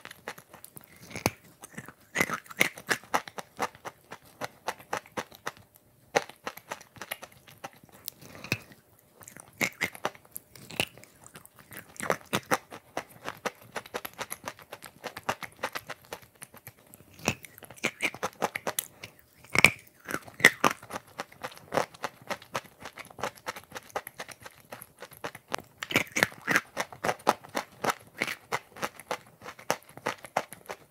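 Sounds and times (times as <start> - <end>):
chewing and crunching chalk: 0.0 - 30.9.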